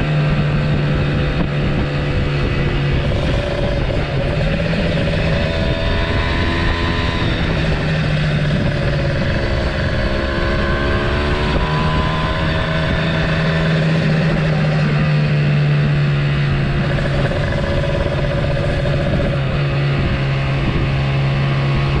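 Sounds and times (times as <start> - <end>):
motorcycle engine running: 0.0 - 22.0
wind rush on microphone: 0.0 - 22.0.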